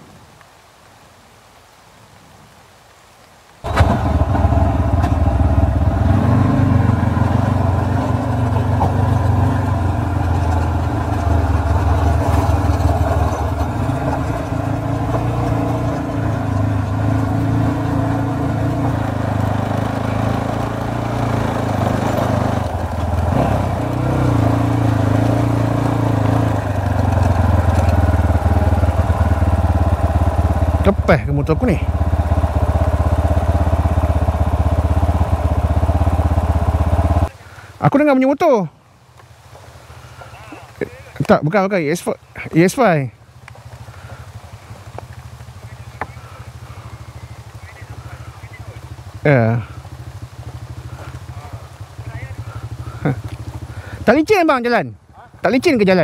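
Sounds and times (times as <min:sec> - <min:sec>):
motorcycle engine running: 0:03.6 - 0:37.8, 0:38.9 - 0:56.0.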